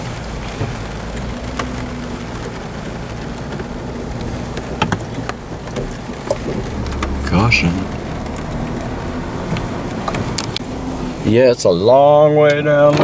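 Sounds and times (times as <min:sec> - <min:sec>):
car engine running low: 0:00.0 - 0:12.1
rain pattering on car: 0:00.0 - 0:13.0.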